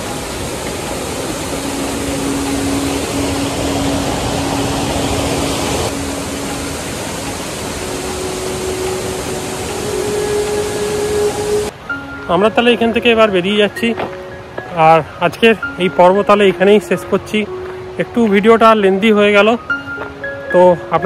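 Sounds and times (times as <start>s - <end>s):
water rushing over rocks: 0.0s - 21.0s.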